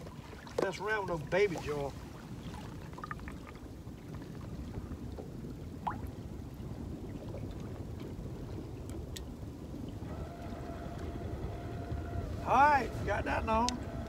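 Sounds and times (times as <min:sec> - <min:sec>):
water around a boat: 0:00.0 - 0:14.0
wind: 0:00.0 - 0:14.0.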